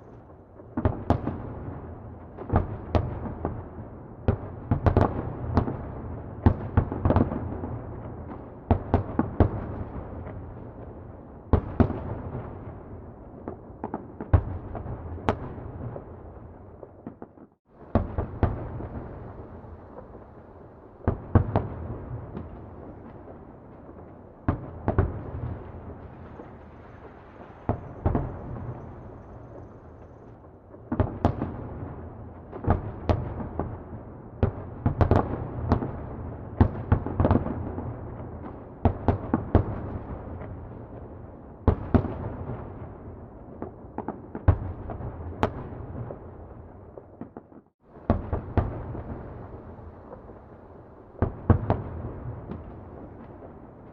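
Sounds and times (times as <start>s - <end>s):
distant fireworks bangs: 0.2s - 53.9s.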